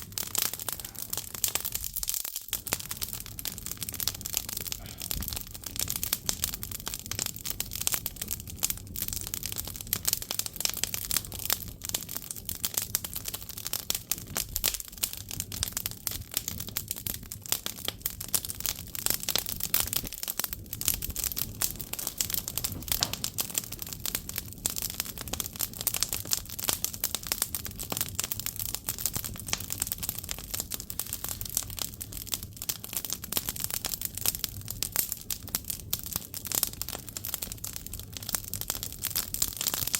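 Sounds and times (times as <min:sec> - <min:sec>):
firewood crackling: 0:00.0 - 0:39.9
low rumble of fire: 0:00.0 - 0:39.9.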